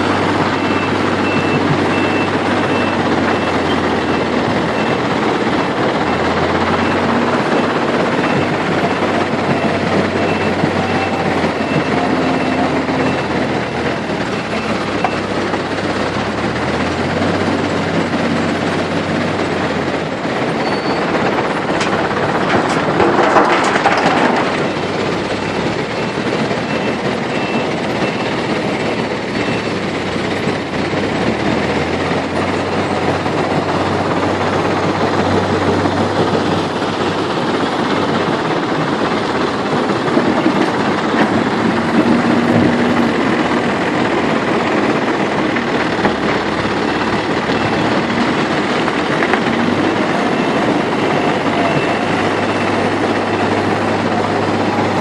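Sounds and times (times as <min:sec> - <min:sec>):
diesel engines working: 0:00.0 - 0:55.0
loud clatter: 0:00.0 - 0:55.0.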